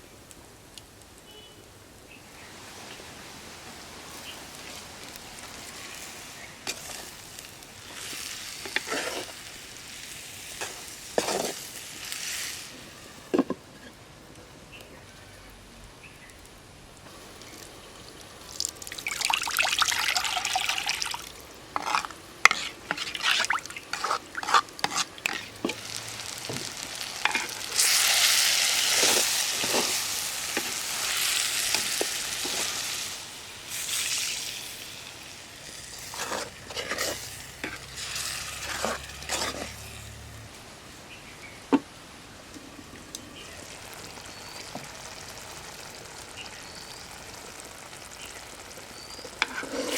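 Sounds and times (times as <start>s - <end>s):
curry sizzling in a pan: 2.3s - 13.6s, 17.1s - 40.4s, 42.8s - 49.9s.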